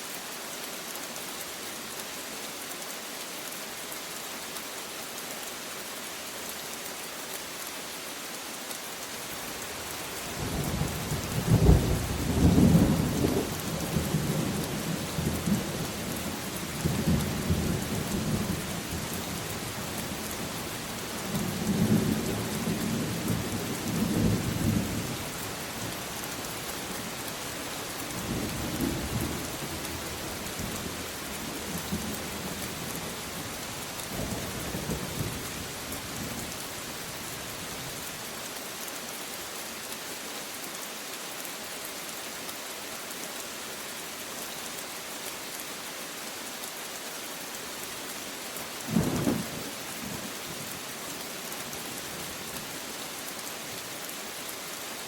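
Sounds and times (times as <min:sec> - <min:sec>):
rain hissing: 0:00.0 - 0:55.0.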